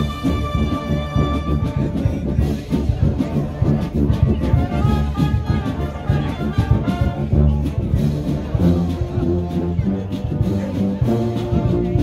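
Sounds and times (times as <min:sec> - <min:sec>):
brass melody: 0:00.0 - 0:12.0
steady drum beat: 0:00.0 - 0:12.0.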